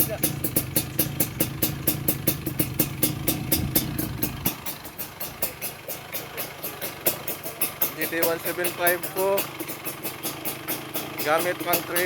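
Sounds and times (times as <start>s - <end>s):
high engine ticking: 0.0s - 12.0s
two-stroke engine idling: 0.0s - 12.0s.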